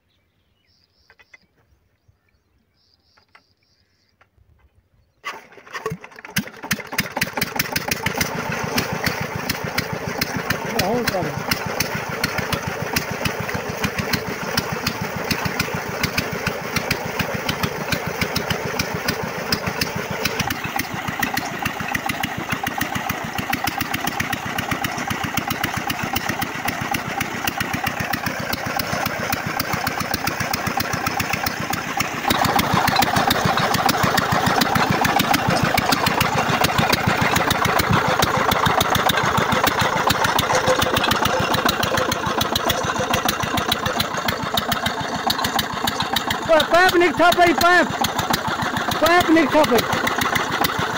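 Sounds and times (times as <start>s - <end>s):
diesel engine running: 5.3s - 50.9s.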